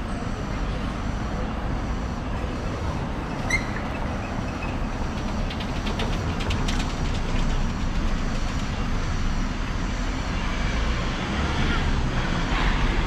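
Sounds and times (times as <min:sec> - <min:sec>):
passing vehicles rumble: 0:00.0 - 0:13.0.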